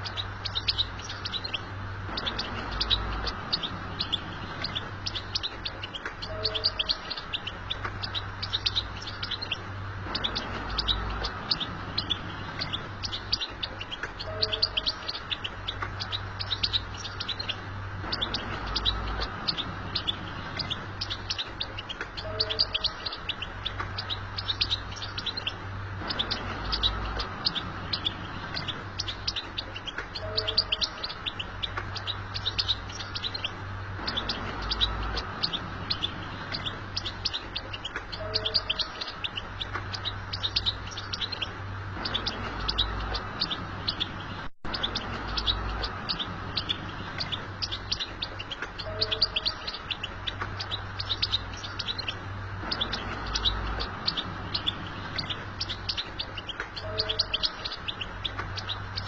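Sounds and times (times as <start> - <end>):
finch twittering song: 0.0 - 59.0
steady low hum: 0.0 - 59.0.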